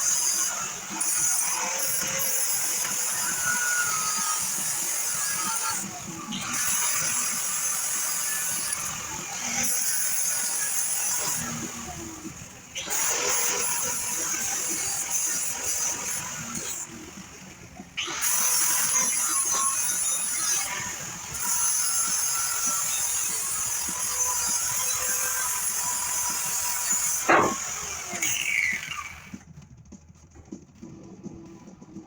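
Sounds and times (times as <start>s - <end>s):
grinder grinding steel: 0.0s - 29.4s.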